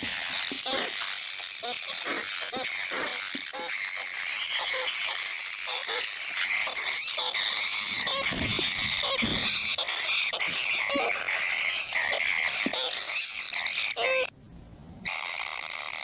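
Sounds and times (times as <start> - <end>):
high buzzing animal calls: 0.0 - 14.3, 15.0 - 16.0
low croaking calls: 0.0 - 16.0.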